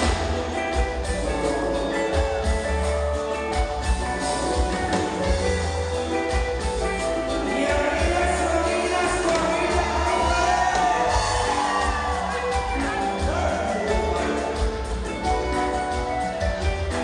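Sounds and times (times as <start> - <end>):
band playing live: 0.0 - 17.0.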